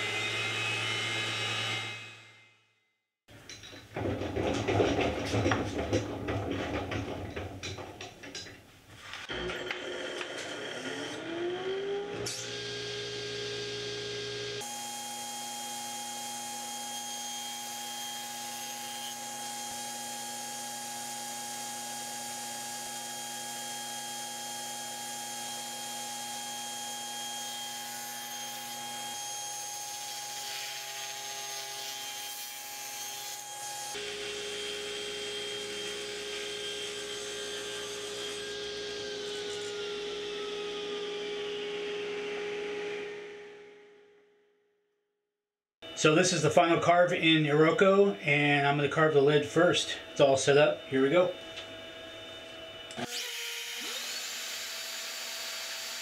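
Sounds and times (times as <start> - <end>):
table saw cutting boards: 0.0 - 2.6, 9.2 - 43.8, 45.8 - 56.0.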